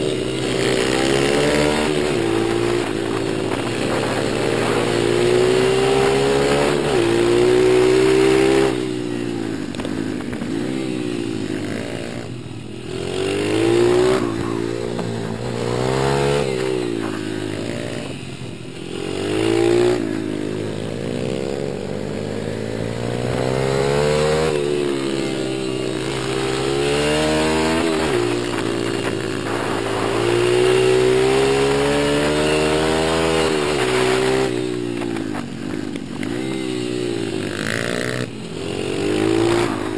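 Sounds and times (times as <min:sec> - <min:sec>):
small motorbike engines revving: 0:00.0 - 0:39.9.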